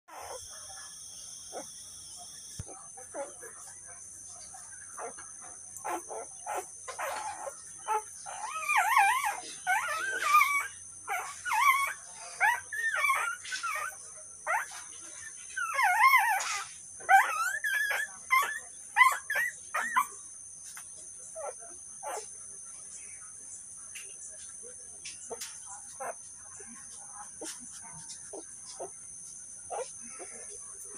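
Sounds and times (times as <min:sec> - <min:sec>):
puppies whimpering and squeaking: 0:00.1 - 0:03.7, 0:04.4 - 0:22.3, 0:25.2 - 0:30.9.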